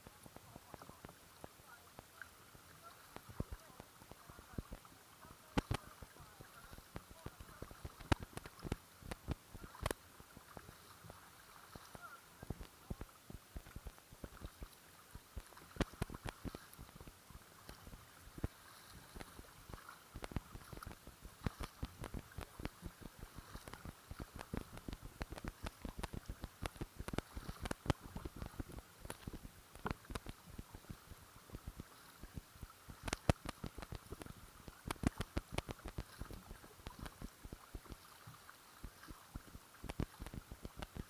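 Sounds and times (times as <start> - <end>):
low hiss: 0.0 - 41.0
water splashing around kayak: 0.0 - 41.0
small irregular clicks and knocks: 3.0 - 41.0.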